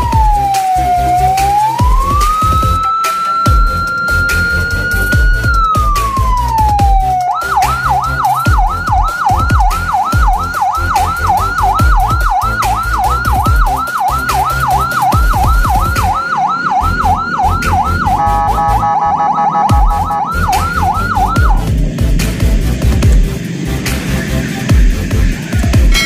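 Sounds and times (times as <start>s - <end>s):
ambulance siren yelping: 0.0s - 21.8s.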